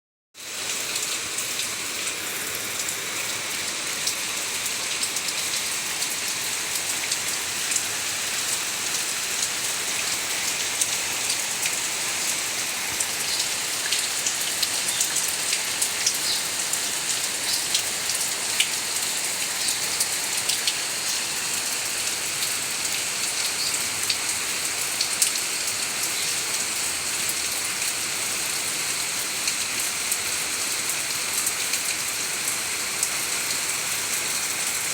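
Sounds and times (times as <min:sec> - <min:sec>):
heavy rain hissing: 0:00.4 - 0:34.9
raindrops ticking on hard surfaces: 0:00.6 - 0:34.9.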